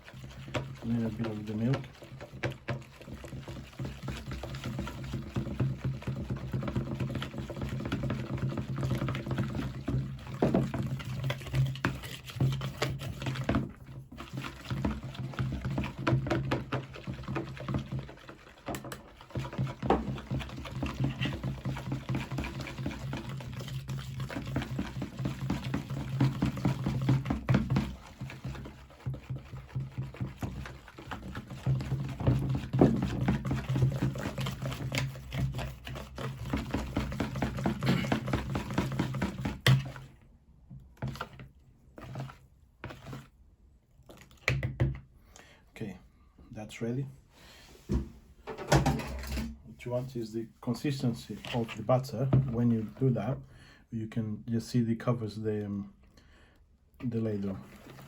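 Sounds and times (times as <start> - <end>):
batter mixed in bowl: 0.0 - 45.1, 47.9 - 56.1, 56.9 - 58.0.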